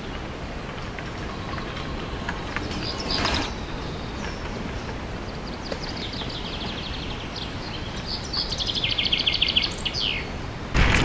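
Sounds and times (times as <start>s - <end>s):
songbirds trilling: 0.0s - 10.4s.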